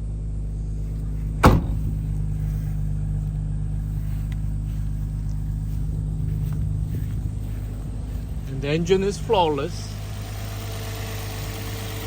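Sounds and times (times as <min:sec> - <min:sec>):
car engine idling: 0:00.3 - 0:12.0.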